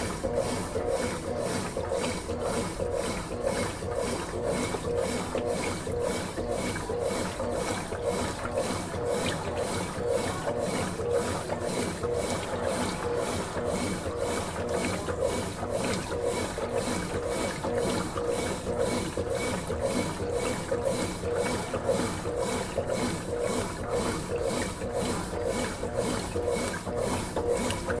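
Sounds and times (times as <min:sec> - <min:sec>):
washing machine churning: 0:00.0 - 0:28.0.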